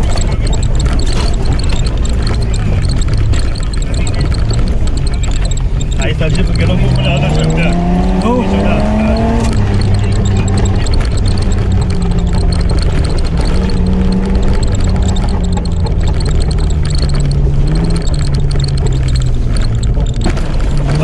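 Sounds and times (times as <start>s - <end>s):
car engine under load: 0.0s - 21.0s.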